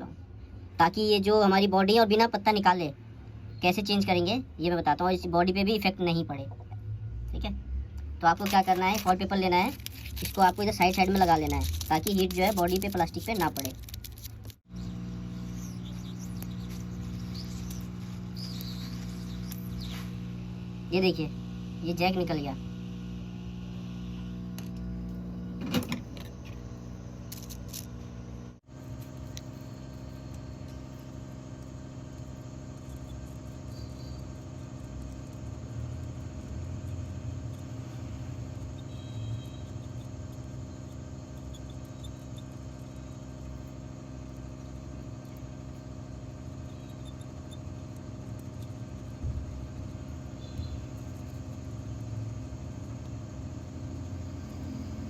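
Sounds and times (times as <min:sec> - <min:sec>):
small motor humming: 0:08.5 - 0:55.0.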